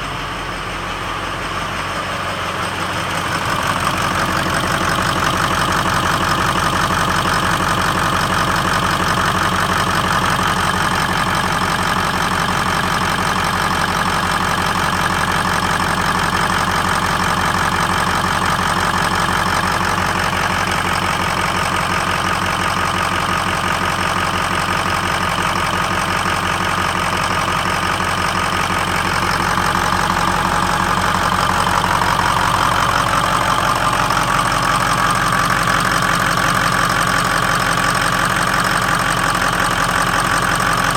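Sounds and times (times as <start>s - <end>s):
diesel engine idling roughly: 0.0s - 40.9s.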